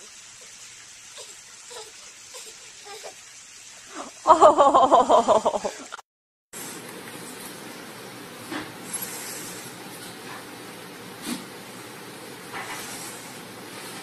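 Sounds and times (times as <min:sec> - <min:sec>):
steady hiss: 0:00.0 - 0:06.0, 0:06.6 - 0:14.0.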